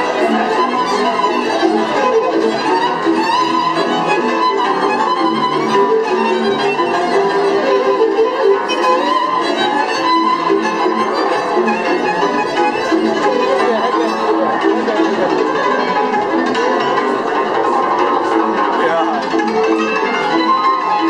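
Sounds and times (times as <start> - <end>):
lead violin melody: 0.0 - 21.0
string band accompaniment: 0.0 - 21.0.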